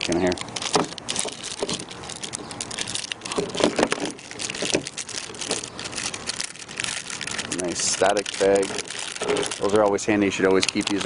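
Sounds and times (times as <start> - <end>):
anti-static bag crinkling: 0.0 - 11.0.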